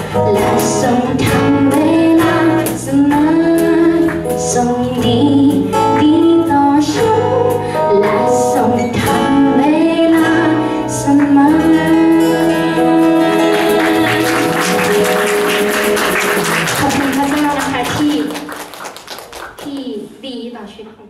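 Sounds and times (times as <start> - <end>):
bass guitar: 0.0 - 18.0
strummed acoustic guitars: 0.0 - 19.0
woman singing: 0.1 - 18.4.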